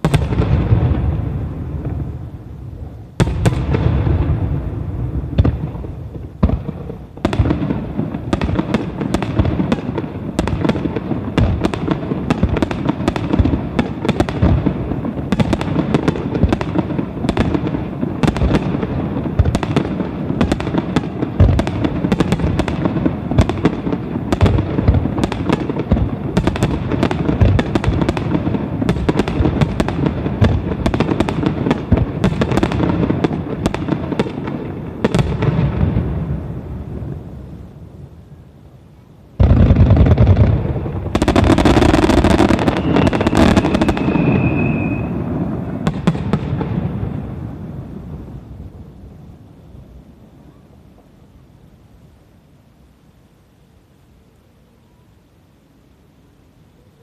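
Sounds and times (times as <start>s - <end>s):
fireworks bangs and crackle: 0.0s - 38.4s, 39.3s - 51.2s.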